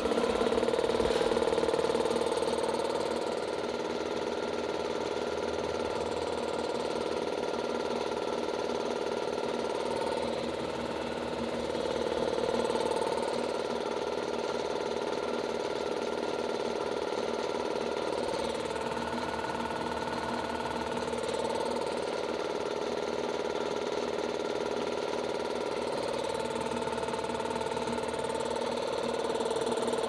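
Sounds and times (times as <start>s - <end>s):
air compressor running: 0.0s - 30.0s.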